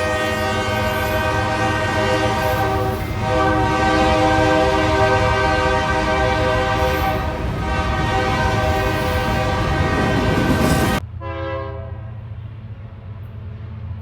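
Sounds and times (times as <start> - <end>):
locomotive air horn chord: 0.0 - 12.2
train rumble: 0.0 - 14.0.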